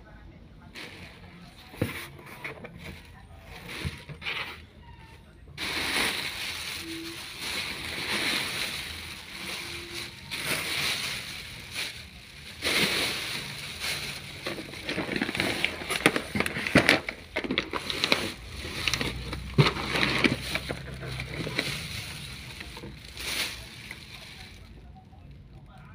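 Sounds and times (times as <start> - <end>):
plastic air pillows crinkling: 0.6 - 25.7.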